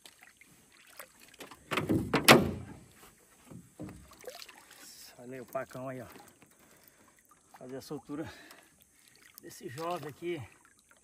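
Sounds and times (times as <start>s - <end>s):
water dripping: 0.0s - 1.8s, 3.7s - 11.0s
water splashing: 0.0s - 11.0s.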